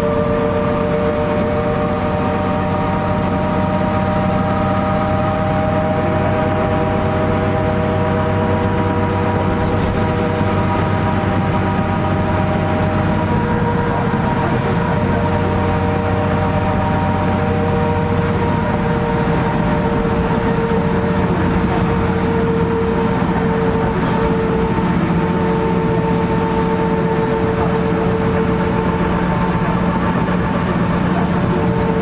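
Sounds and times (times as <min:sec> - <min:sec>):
bus diesel engine drone: 0:00.0 - 0:32.0
steady whine: 0:00.0 - 0:32.0.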